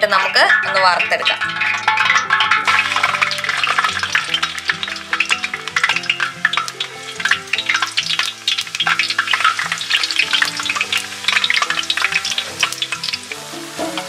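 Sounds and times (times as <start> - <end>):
small crackles: 0.0 - 13.4
ginger sizzling in hot oil: 0.0 - 14.0.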